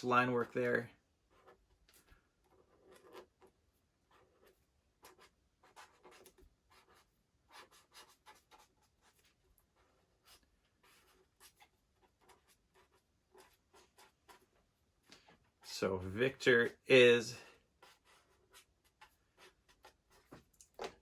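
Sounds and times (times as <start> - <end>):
pen scratching on paper: 0.4 - 14.7, 17.7 - 21.0.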